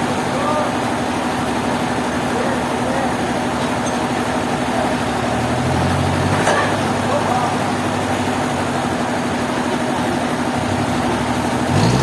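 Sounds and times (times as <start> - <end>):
sawmill machinery hum: 0.0 - 12.0.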